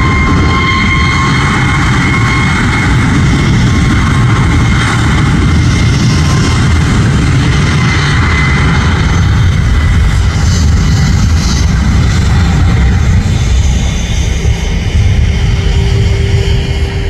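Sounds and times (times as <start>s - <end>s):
jet engines at takeoff thrust: 0.0s - 17.0s.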